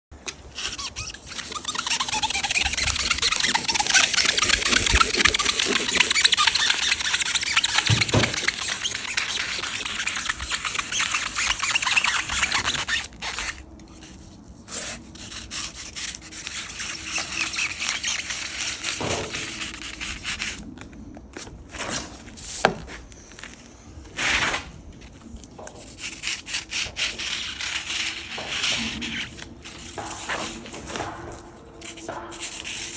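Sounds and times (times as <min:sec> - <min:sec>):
blade rasping through foam: 0:00.3 - 0:20.7, 0:25.6 - 0:32.9.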